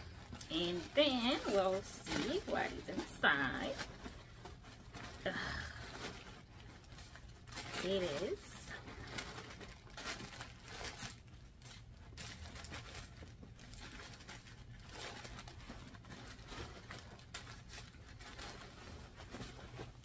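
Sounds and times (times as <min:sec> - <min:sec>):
tissue paper crinkling: 0:00.0 - 0:20.0.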